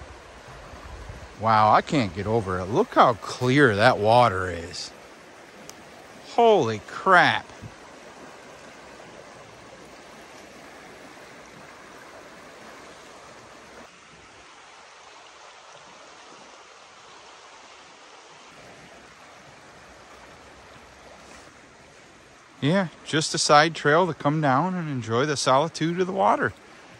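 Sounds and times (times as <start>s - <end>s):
creek flowing: 0.0s - 26.9s.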